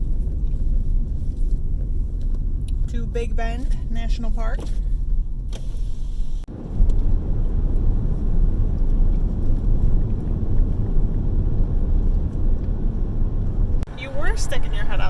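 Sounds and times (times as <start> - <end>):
road and wind noise in a car: 0.0 - 15.0.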